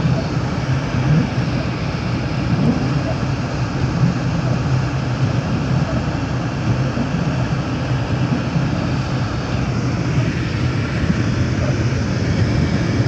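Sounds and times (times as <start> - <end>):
low engine hum: 0.0 - 13.0
road and tyre noise: 0.0 - 13.0.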